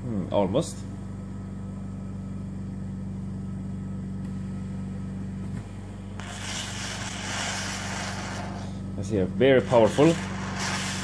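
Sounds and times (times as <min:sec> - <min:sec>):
compressor running with hum: 0:00.0 - 0:11.0.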